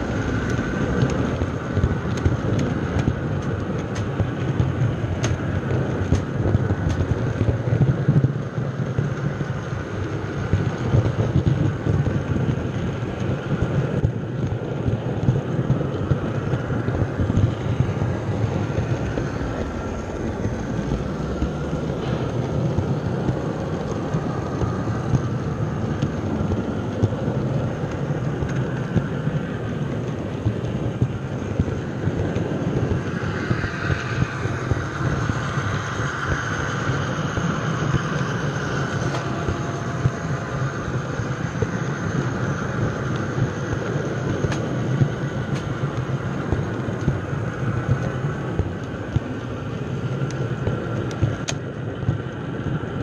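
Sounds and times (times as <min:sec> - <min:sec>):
model train wheels rumbling on rail: 0:00.0 - 0:53.0.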